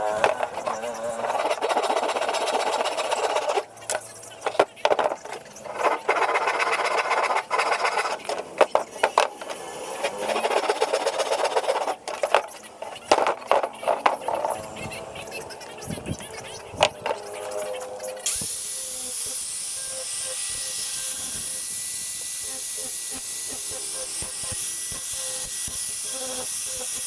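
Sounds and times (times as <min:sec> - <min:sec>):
small power tool working wood: 0:00.0 - 0:27.0.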